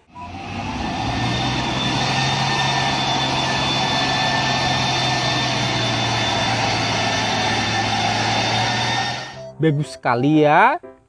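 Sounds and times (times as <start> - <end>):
diesel truck engine running: 0.0 - 9.5
thin steady whine: 0.0 - 9.5.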